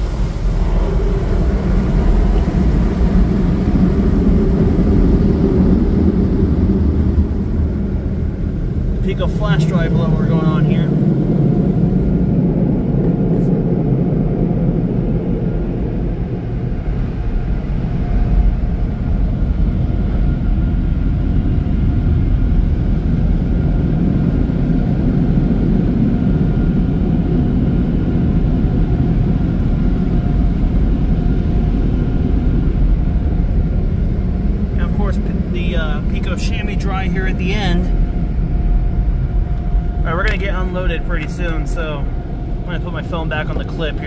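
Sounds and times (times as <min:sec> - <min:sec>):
dryer blowers rushing drone: 0:00.0 - 0:44.0.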